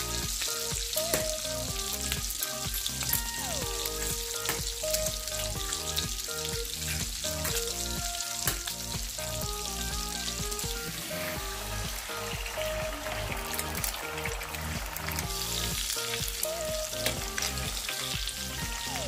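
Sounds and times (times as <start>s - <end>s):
background music with beat: 0.0s - 19.0s
bacon sizzling in a skillet: 0.0s - 19.0s.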